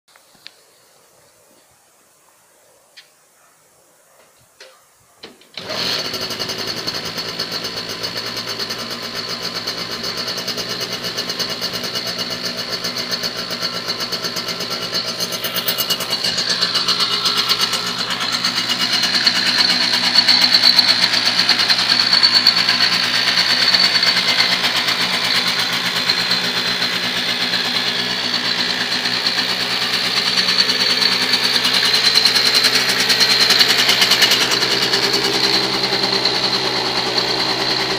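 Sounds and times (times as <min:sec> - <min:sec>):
moped engine starting and idling: 0:05.4 - 0:37.9.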